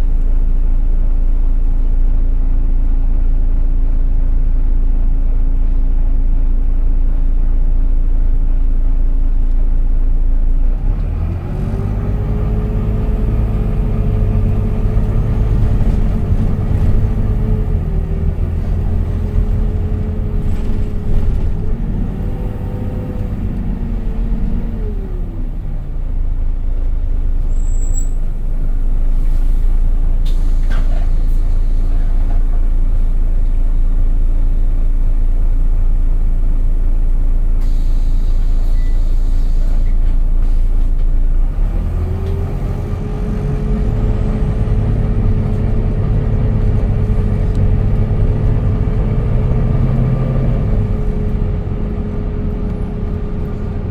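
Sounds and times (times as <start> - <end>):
bus engine idling and revving: 0.0 - 53.9.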